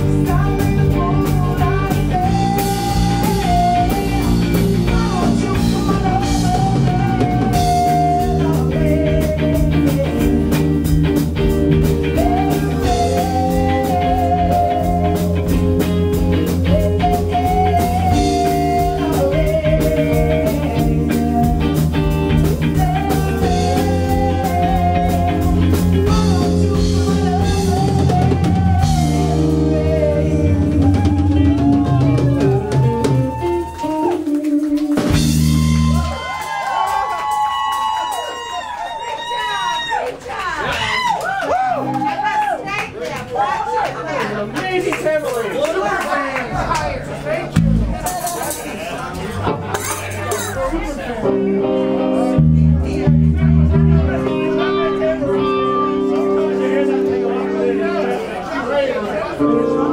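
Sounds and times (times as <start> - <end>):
rock band playing: 0.0 - 40.1, 40.7 - 59.9.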